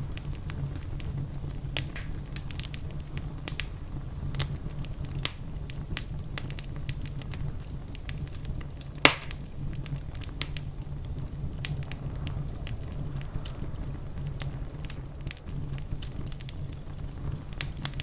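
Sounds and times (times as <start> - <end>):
loud fire pop: 0.0 - 18.0
low rumble of fire: 0.0 - 18.0
wood fire crackling: 0.0 - 18.0.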